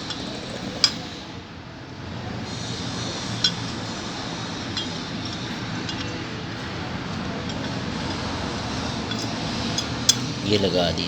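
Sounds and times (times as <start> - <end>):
metal parts clinking: 0.0 - 1.2, 2.5 - 11.0
steady background noise: 0.0 - 11.0.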